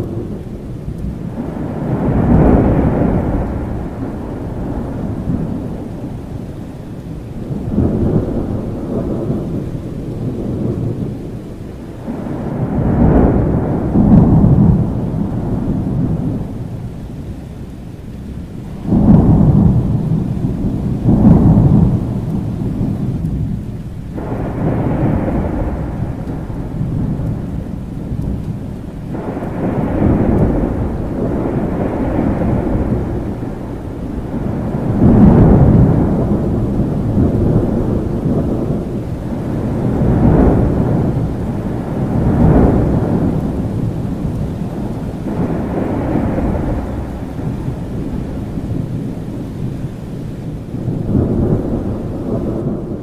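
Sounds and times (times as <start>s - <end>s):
steady rain: 0.0s - 53.0s
thunder rumbling: 0.0s - 53.0s.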